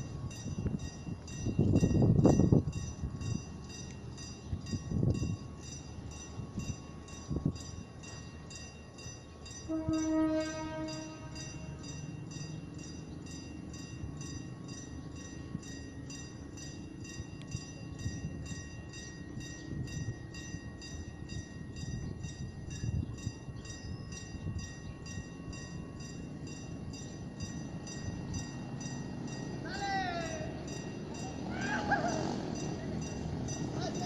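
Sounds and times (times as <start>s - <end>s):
level-crossing bell ringing: 0.0s - 34.0s
train rumbling slowly: 0.0s - 34.0s.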